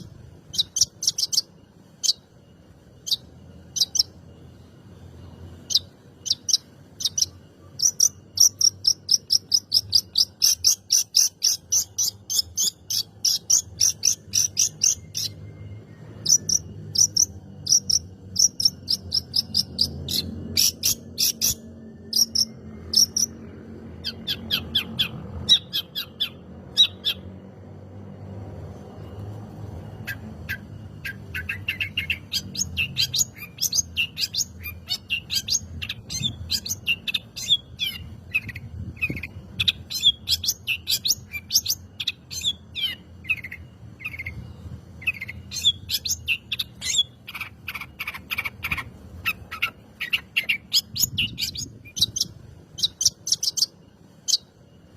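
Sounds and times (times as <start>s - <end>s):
bird chattering song: 0.0s - 27.5s, 29.8s - 54.9s.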